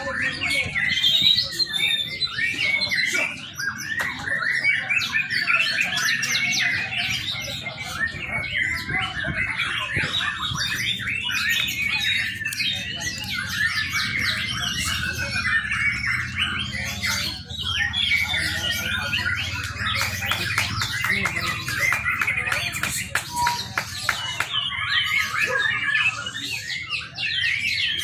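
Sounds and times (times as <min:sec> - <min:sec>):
bird singing chirps and twitters: 0:00.0 - 0:28.0.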